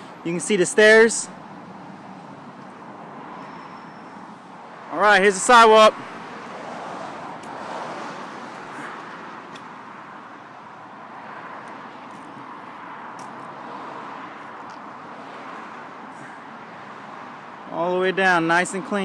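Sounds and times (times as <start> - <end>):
distant traffic: 0.0 - 19.0.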